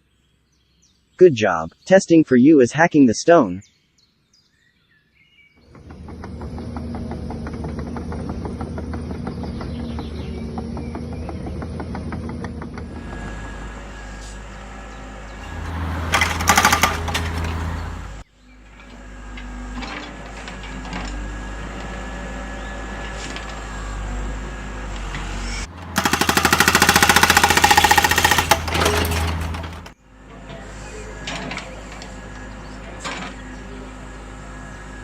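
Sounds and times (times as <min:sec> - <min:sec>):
motor and hydraulic pump whirring: 0:05.7 - 0:35.0.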